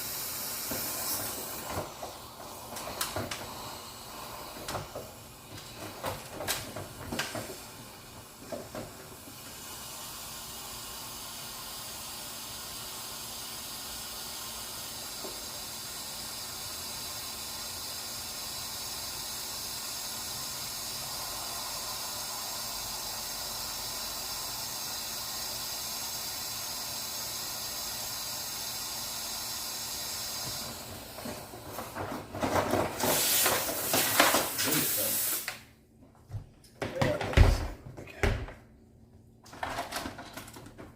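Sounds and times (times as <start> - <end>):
steady hiss: 0.0 - 32.1, 32.9 - 35.8.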